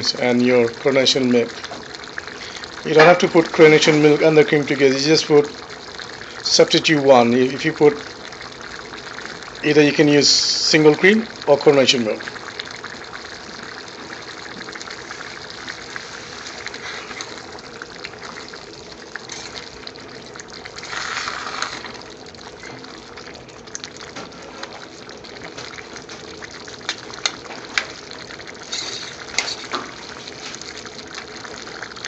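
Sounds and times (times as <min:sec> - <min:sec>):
gravy bubbling in a pan: 0:00.0 - 0:32.0.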